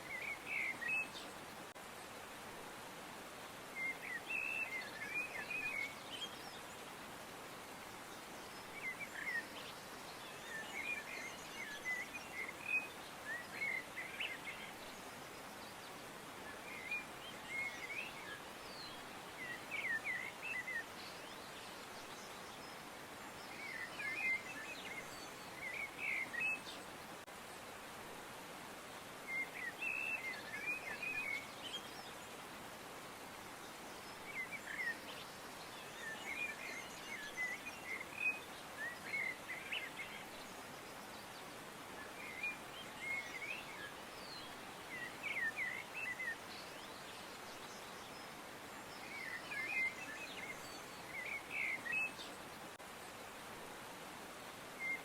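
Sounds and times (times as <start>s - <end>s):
small birds twittering: 0.0s - 2.4s, 3.2s - 55.0s
faint outdoor hiss: 0.0s - 55.0s.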